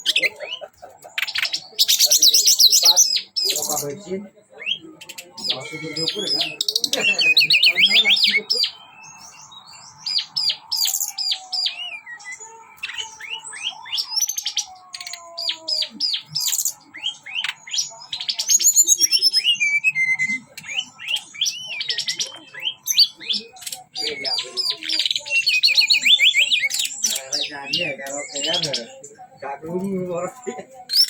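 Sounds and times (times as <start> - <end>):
songbird chirping and trilling: 0.0 - 31.0.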